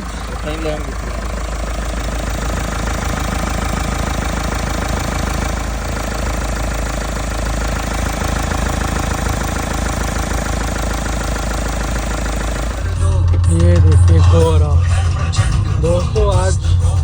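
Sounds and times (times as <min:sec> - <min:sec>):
diesel engine idling: 0:00.0 - 0:17.0
engine ticking: 0:00.0 - 0:17.0.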